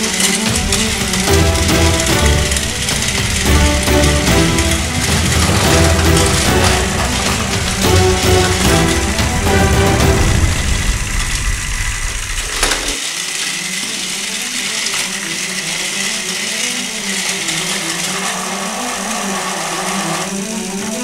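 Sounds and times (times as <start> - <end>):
toy train motors whirring: 0.0 - 21.0
wheels rattling on plastic track: 0.0 - 21.0.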